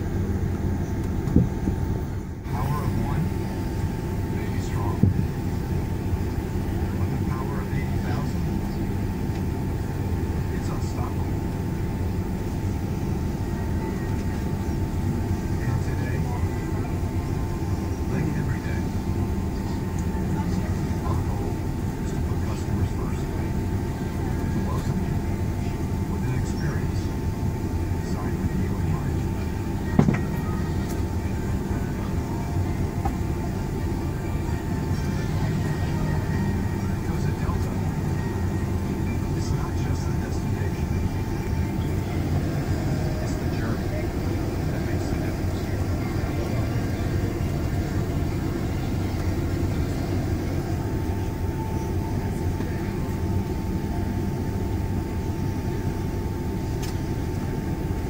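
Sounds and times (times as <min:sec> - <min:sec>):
airliner cabin rumble: 0:00.0 - 0:58.0
faint steady whine: 0:00.0 - 0:58.0.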